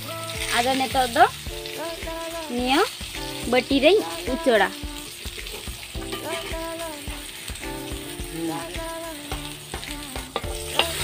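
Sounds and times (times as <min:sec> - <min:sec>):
background music melody: 0:00.0 - 0:11.0
vegetables sizzling in hot oil: 0:00.0 - 0:11.0.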